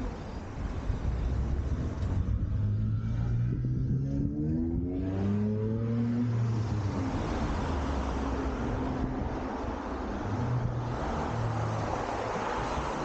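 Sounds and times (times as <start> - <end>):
street noise: 0.0 - 13.0
vehicle engine accelerating: 1.2 - 13.0.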